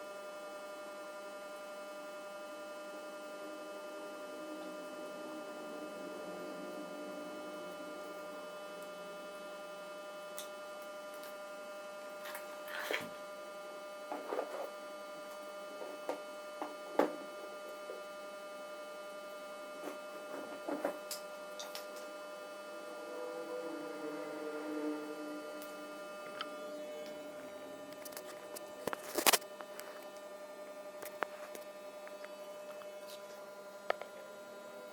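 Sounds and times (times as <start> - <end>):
electrical hum: 0.0 - 34.9.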